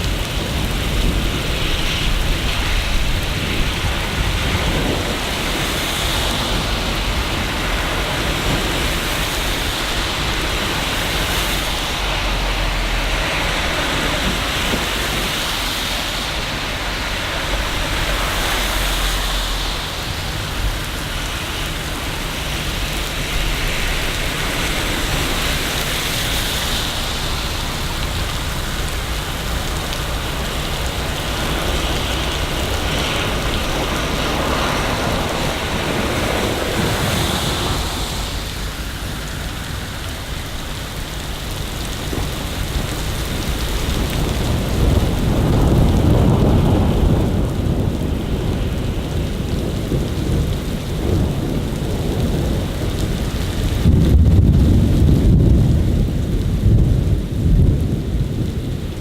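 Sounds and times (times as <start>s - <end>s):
rain hissing: 0.0s - 59.0s
rolling thunder: 0.0s - 59.0s.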